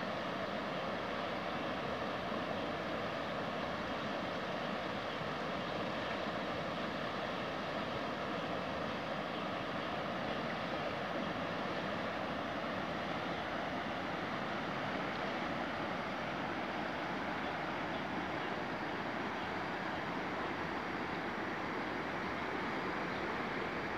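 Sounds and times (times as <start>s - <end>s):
river rushing: 0.0s - 23.9s.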